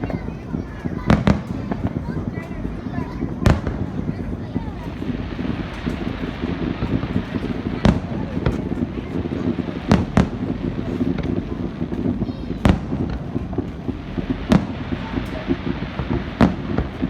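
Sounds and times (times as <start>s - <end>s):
fireworks bursting bangs: 0.0s - 17.0s
steady low rumble: 0.3s - 17.0s.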